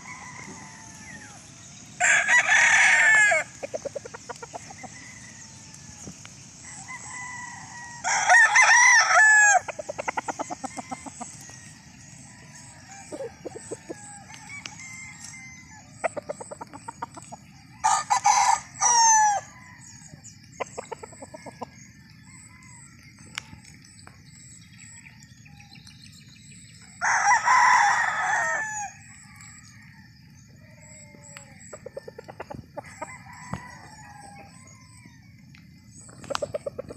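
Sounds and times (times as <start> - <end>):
rooster crowing: 0.0 - 23.8, 26.9 - 36.0.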